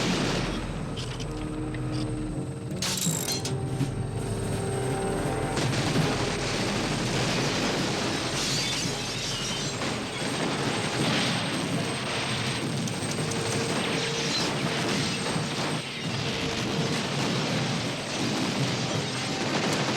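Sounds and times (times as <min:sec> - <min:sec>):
helicopter running: 0:00.0 - 0:19.9.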